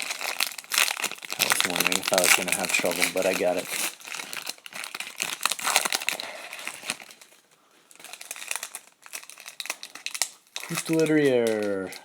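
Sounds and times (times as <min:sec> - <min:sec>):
card pack wrapper crinkling: 0:00.0 - 0:12.0.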